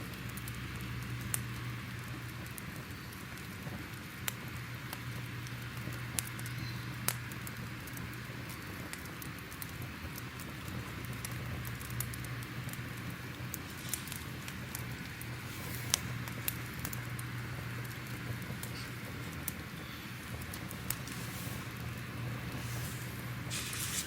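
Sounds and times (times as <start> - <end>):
fire popping and snapping: 0.0 - 24.0
low rumble and hiss: 0.0 - 24.0.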